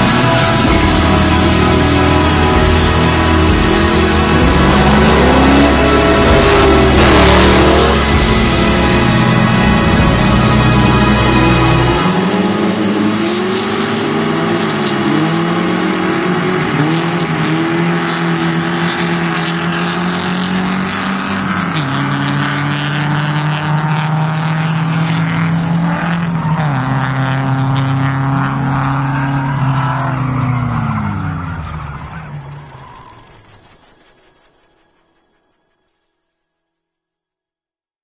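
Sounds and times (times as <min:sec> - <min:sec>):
car engines revving: 0:00.0 - 0:35.6.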